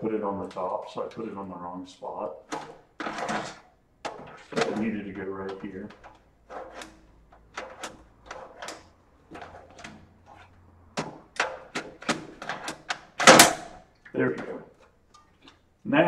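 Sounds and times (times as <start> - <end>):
drive scraping and knocking in metal bay: 2.4 - 15.3.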